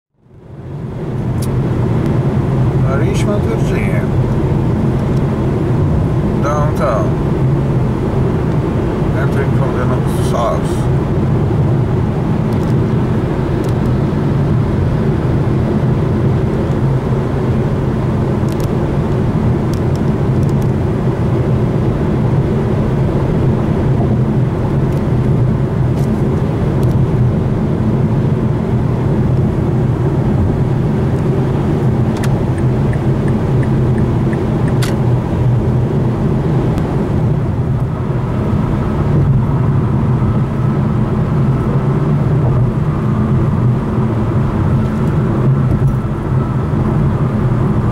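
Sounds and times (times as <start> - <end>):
road noise inside car: 0.2 - 47.9.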